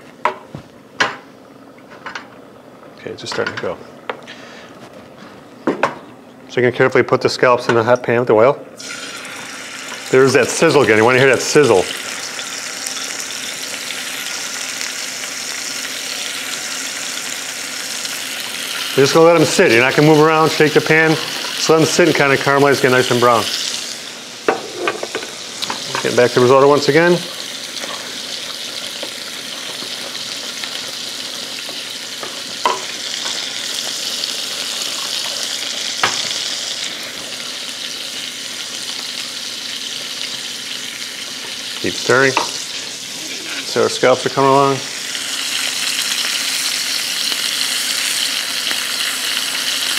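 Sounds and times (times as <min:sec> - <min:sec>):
scallops sizzling in frying pan: 0:08.8 - 0:44.2, 0:44.9 - 0:49.9.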